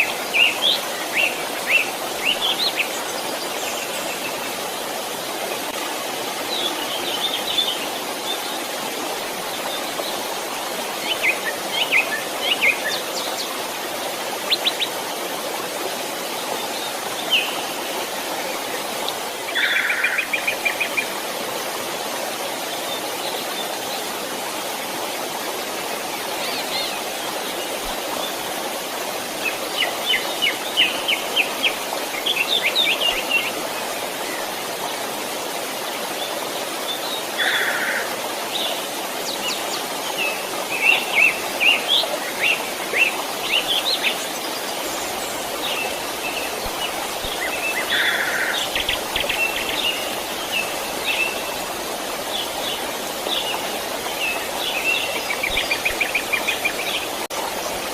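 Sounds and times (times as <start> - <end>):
creek flowing: 0.0 - 57.9.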